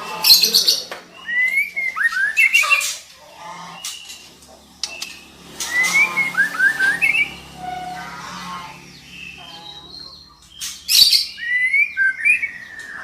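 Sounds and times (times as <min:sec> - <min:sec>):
bird chirps and rasping notes: 0:00.0 - 0:13.0.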